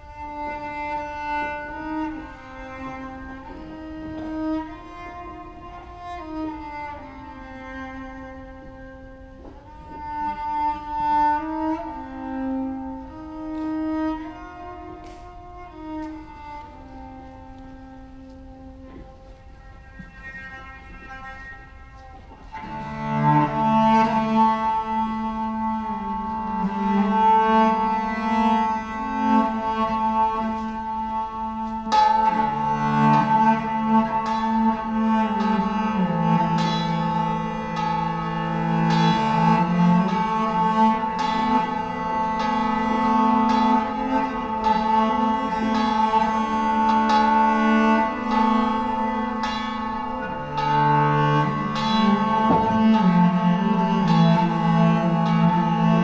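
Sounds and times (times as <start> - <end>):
folk string band playing: 0.0 - 56.0.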